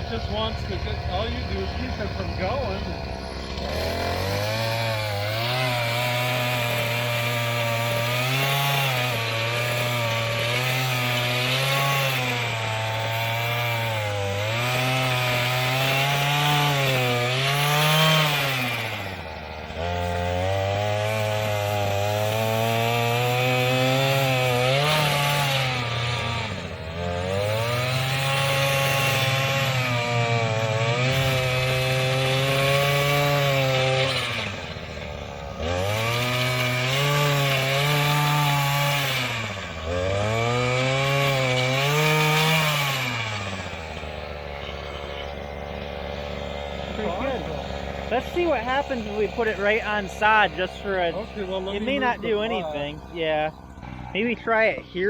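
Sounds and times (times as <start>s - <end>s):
tiller engine at high revs: 0.0s - 55.0s
tines churning through soil: 0.0s - 55.0s.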